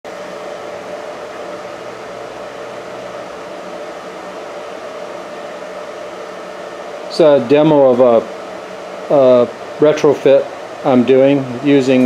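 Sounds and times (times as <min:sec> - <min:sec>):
fan-like hiss: 0:00.1 - 0:12.0.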